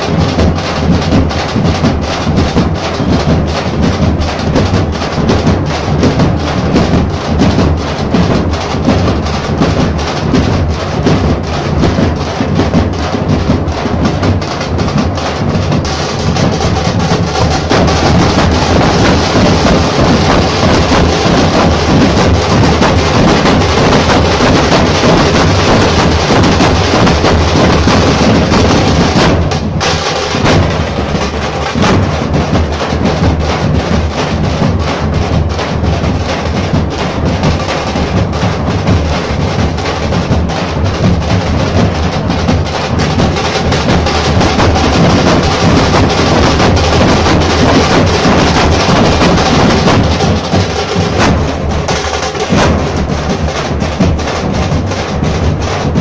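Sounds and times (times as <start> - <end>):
barrel drums beaten with sticks: 0.0 - 56.0.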